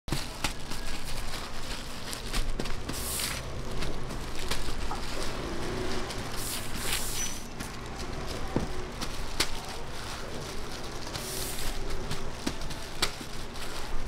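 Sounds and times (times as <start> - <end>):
seaweed sheets rustling: 0.1 - 14.0.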